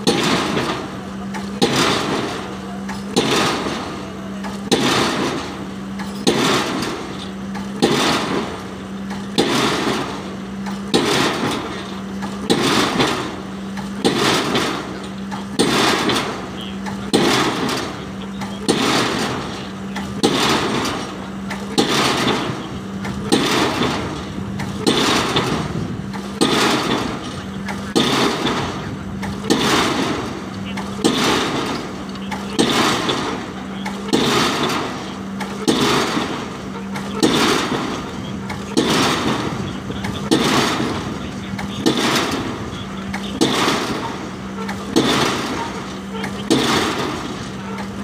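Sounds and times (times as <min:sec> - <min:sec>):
pile hammer blows: 0:00.0 - 0:48.0
steady low hum: 0:00.0 - 0:48.0.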